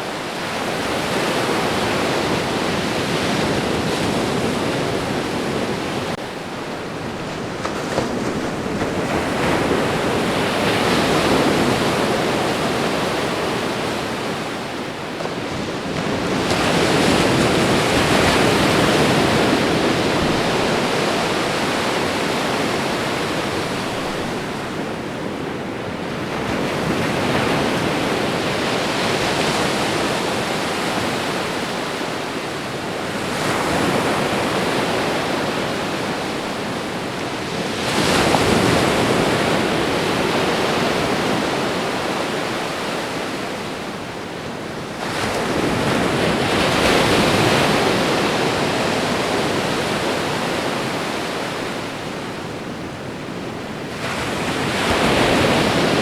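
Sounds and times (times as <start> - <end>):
ocean waves washing on shore: 0.0 - 56.0.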